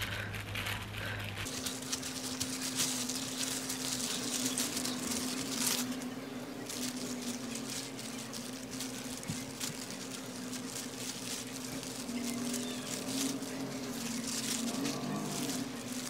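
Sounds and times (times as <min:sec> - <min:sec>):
plastic gloves crinkling: 0:00.0 - 0:16.0
soft patting of rice: 0:00.0 - 0:16.0
steady low hum: 0:00.0 - 0:16.0.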